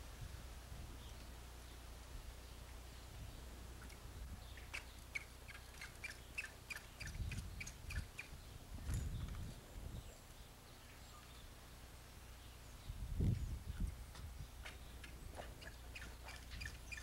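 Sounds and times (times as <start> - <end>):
bird chirping: 2.4 - 11.6, 12.2 - 17.0.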